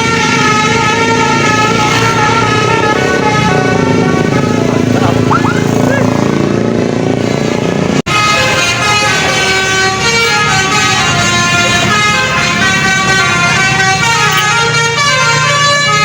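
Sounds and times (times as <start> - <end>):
bus horn playing a tune: 0.0 - 6.1, 8.1 - 16.0.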